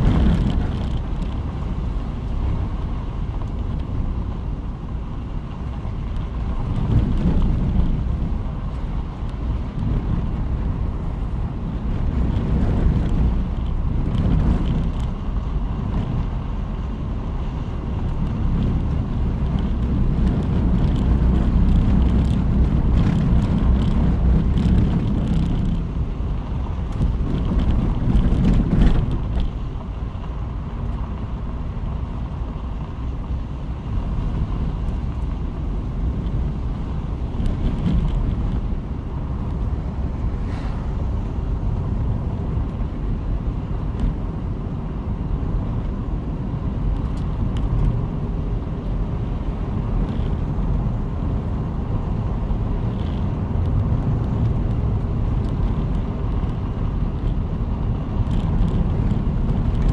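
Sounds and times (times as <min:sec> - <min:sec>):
car driving along road: 0:00.0 - 0:59.9
wind buffeting microphone: 0:00.0 - 0:59.9.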